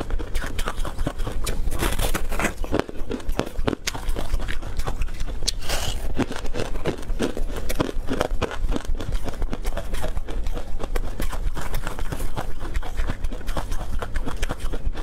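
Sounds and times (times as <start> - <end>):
crunchy food being chewed: 0.0 - 15.0.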